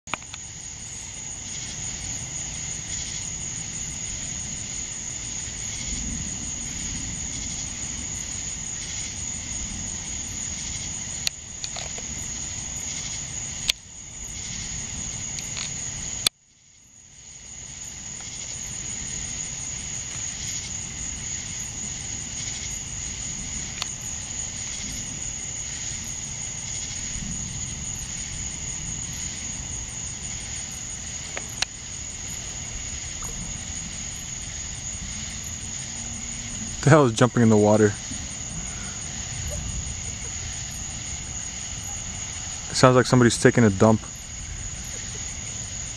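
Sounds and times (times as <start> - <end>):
insects chirping: 0.1 - 45.9.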